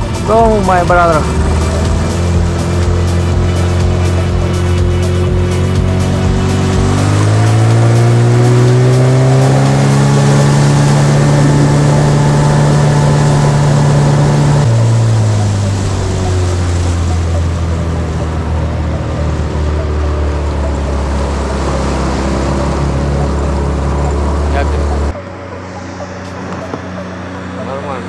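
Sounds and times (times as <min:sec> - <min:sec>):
outboard motorboat engine: 0:00.0 - 0:28.0.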